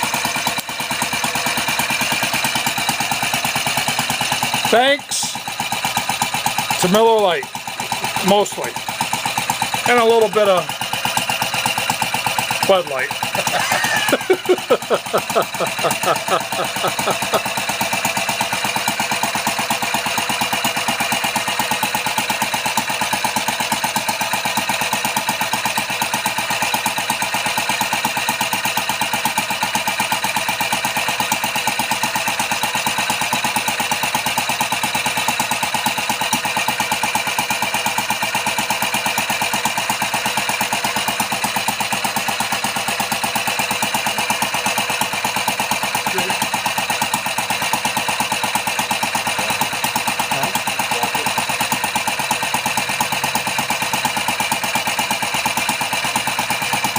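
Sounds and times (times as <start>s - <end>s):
small engine running steadily: 0.0s - 56.9s.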